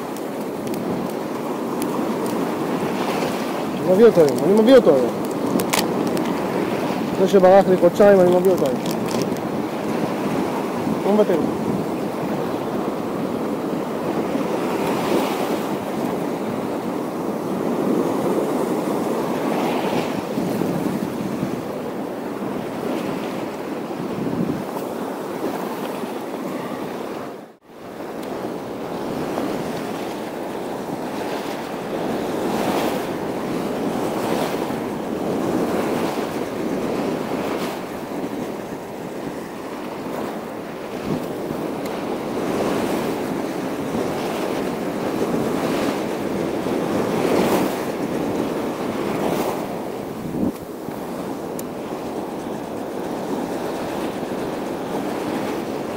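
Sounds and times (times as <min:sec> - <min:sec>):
waves washing against rocky shore: 0:00.0 - 0:55.9.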